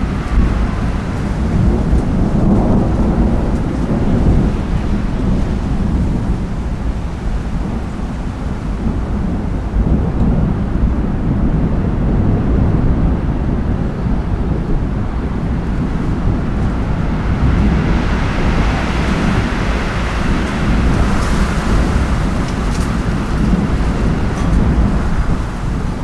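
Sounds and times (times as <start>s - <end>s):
storm wind buffeting microphone: 0.0s - 26.0s.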